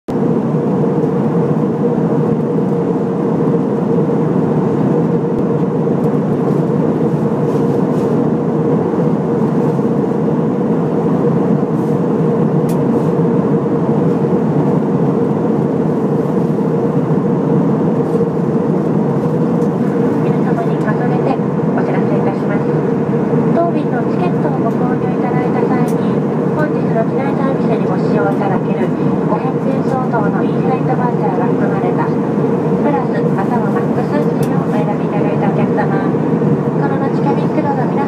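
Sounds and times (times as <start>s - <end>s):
aircraft engines and airflow drone: 0.1s - 38.0s
constant hum: 0.1s - 38.0s.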